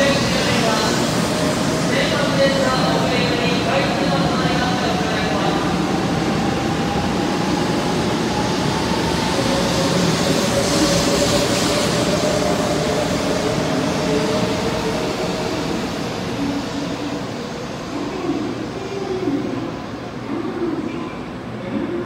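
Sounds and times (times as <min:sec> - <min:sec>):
steady train whine: 0:00.0 - 0:22.0
train wheels rushing on rail: 0:00.0 - 0:22.0.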